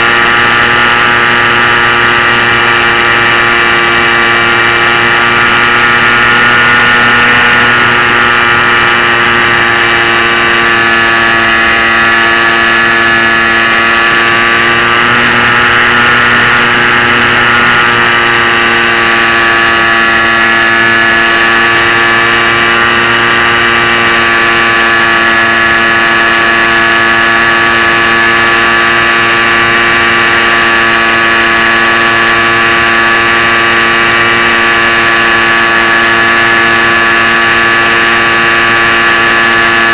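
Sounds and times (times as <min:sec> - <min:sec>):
rc plane motor and propeller drone: 0:00.0 - 0:39.9.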